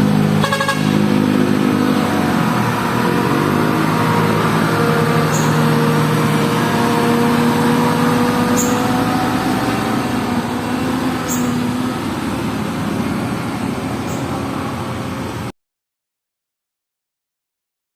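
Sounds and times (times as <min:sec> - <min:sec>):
diesel bus engine labouring: 0:00.0 - 0:15.5.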